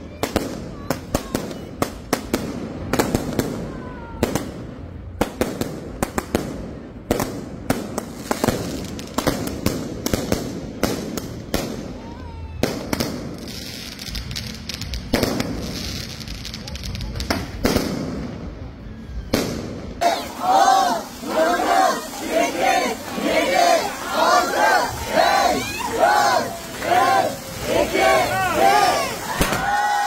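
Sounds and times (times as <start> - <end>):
fireworks bangs and cracks: 0.1 - 18.6, 19.3 - 24.2, 24.9 - 30.0.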